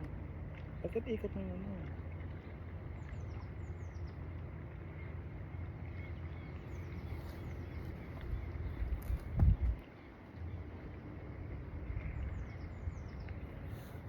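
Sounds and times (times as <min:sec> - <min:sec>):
steady low rumble: 0:00.0 - 0:14.0
birds chirping: 0:00.7 - 0:10.6, 0:11.9 - 0:14.0.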